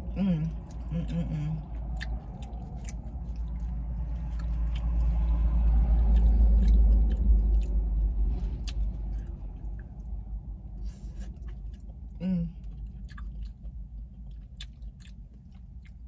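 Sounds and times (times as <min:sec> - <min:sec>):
passing truck rumble: 0:00.0 - 0:13.5
close-up chewing: 0:00.4 - 0:10.3, 0:11.0 - 0:16.0.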